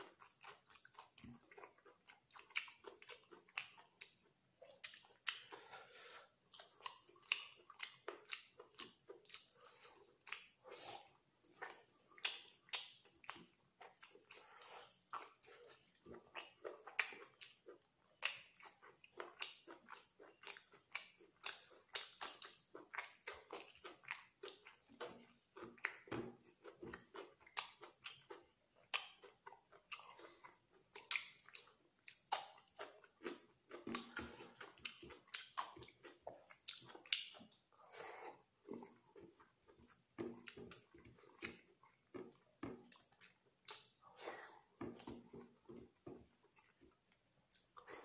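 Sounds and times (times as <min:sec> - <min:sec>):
wet chewing and mouth smacks: 0:00.0 - 0:48.0.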